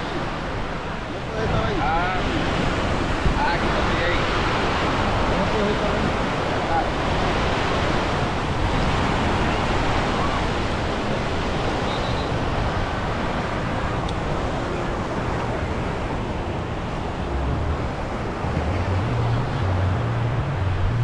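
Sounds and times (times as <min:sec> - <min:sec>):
surf washing on beach: 0:00.0 - 0:21.0
wind buffeting microphone: 0:00.0 - 0:21.0.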